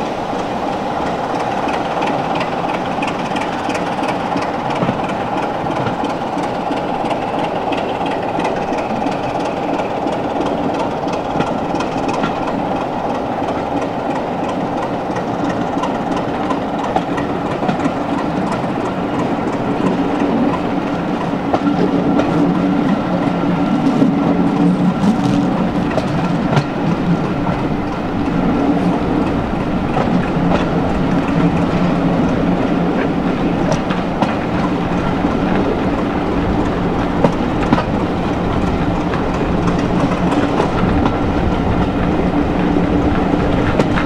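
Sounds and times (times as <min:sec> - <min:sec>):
train running noise: 0:00.0 - 0:44.0
wheels clicking over rail joints: 0:00.3 - 0:44.0.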